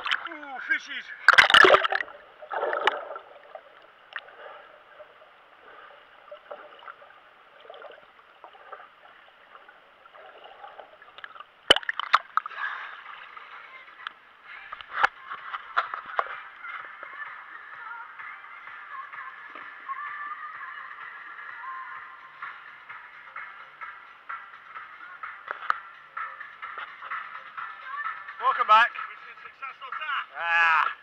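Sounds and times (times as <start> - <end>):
water splashing and sloshing: 0.0 - 30.0.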